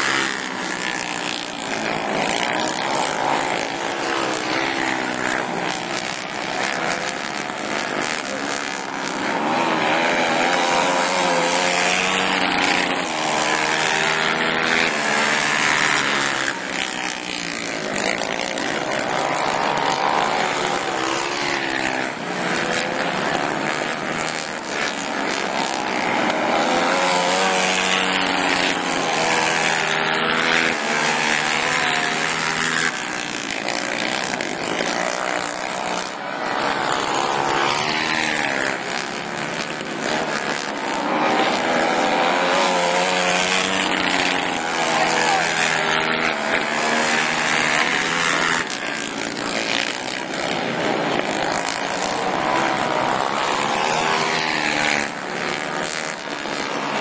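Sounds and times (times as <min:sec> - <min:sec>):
racing atv engines: 0:00.0 - 0:57.0.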